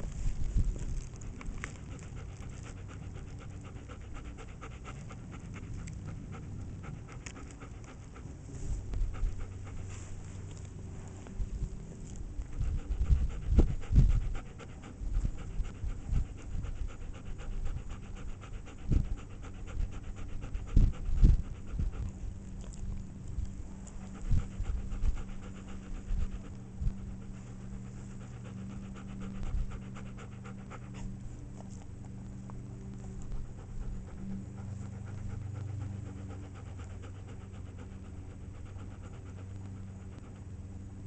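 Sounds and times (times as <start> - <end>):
dog panting: 0.0 - 41.0.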